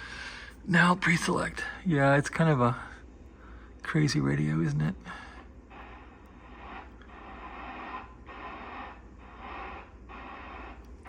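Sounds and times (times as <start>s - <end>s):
radio static hiss: 0.0s - 3.0s, 3.8s - 11.0s
faint low hum: 0.0s - 11.0s.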